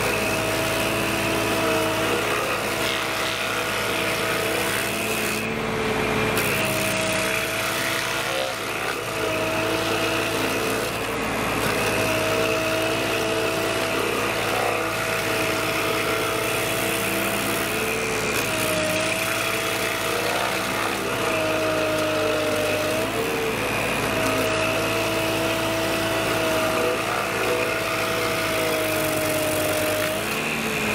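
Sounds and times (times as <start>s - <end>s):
tractor engine running stump grinder: 0.0s - 30.9s.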